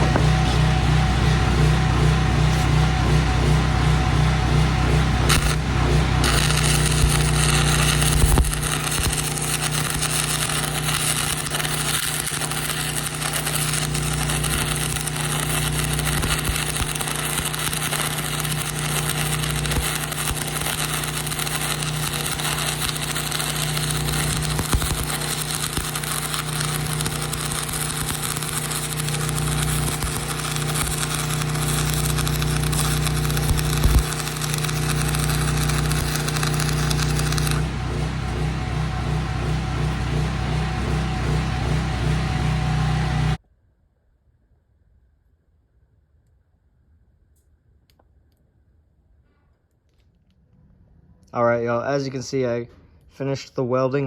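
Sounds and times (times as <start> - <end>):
welder engine running: 0.0 - 43.4
welding arc burning: 0.0 - 43.4.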